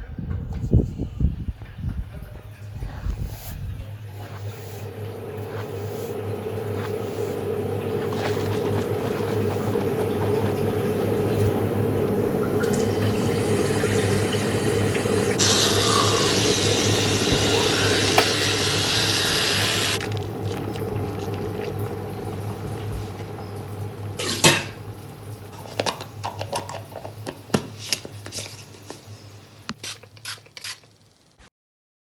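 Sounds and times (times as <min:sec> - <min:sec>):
running water: 0:02.4 - 0:31.3.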